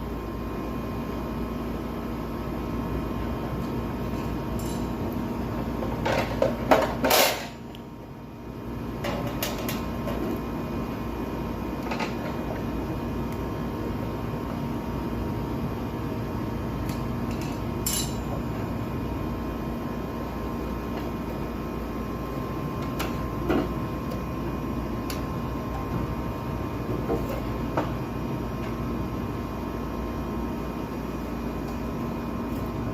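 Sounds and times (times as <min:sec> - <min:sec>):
background hum: 0:00.0 - 0:32.9.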